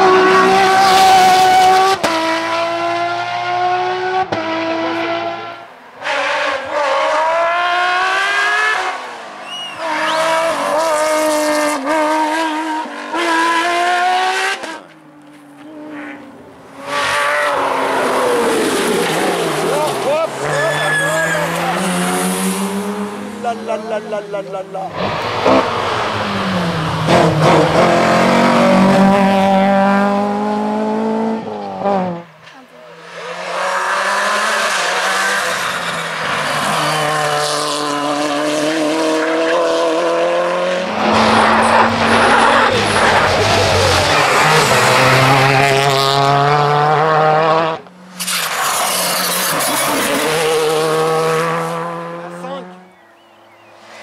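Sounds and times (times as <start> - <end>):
rally car engine at high revs: 0.0 - 54.0.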